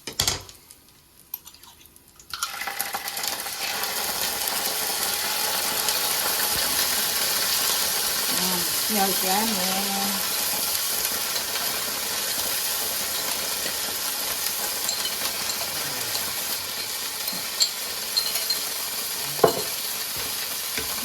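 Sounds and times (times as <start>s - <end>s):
sizzling in a frying pan: 0.1s - 21.0s.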